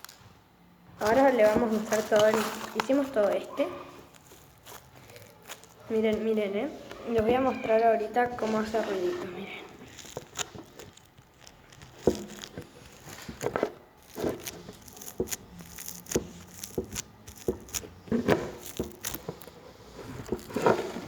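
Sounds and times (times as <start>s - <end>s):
slime squeezed with pops and crackles: 1.0s - 6.5s, 8.0s - 21.0s.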